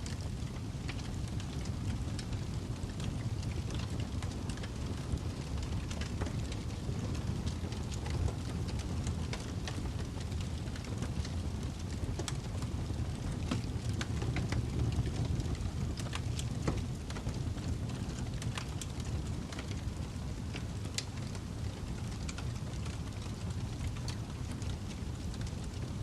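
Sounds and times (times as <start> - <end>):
fireplace crackling and popping: 0.0 - 26.0.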